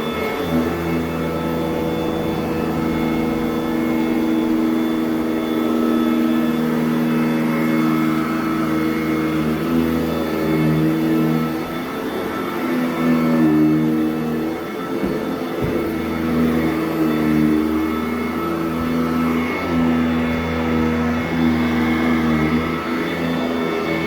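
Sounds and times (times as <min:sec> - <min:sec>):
upright vacuum running on carpet: 0:00.0 - 0:24.0.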